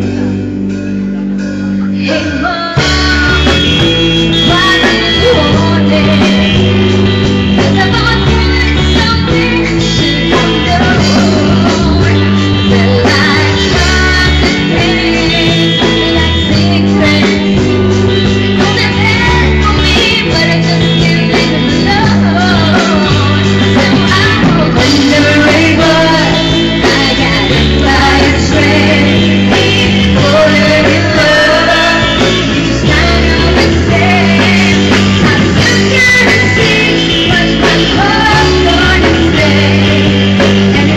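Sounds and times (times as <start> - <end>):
bass line: 0.0 - 40.9
live rock band playing: 0.0 - 40.9
people singing into microphone: 1.9 - 40.9.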